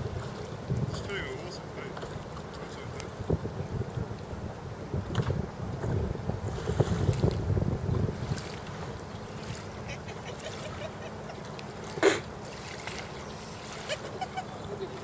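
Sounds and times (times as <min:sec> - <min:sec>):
light water splashes: 0:00.0 - 0:04.3, 0:06.5 - 0:15.0.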